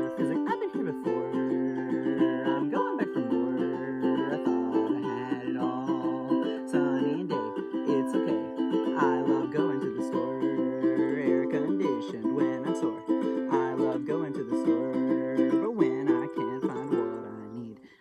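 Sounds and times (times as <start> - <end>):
plucked string instrument chords: 0.0 - 17.5.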